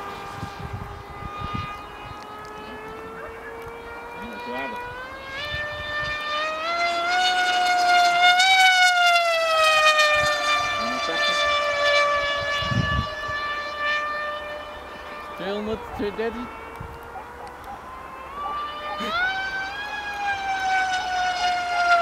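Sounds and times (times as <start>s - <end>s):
model plane motors whining: 0.0s - 22.0s.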